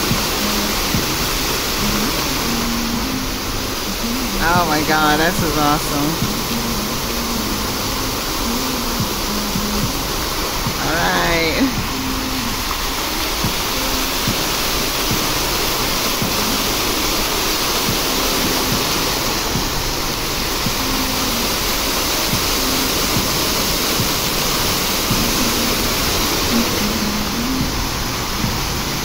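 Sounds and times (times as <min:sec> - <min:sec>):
fountain water splashing: 0:00.0 - 0:29.0.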